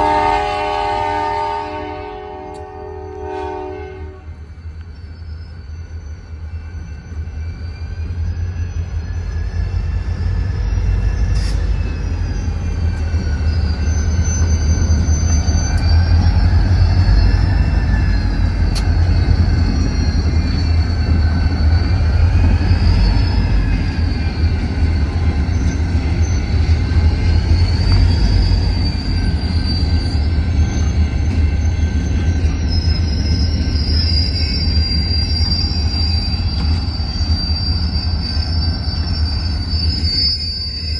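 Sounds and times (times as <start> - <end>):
train low rumble: 0.0 - 40.9
train wheels squealing on rails: 0.0 - 40.9.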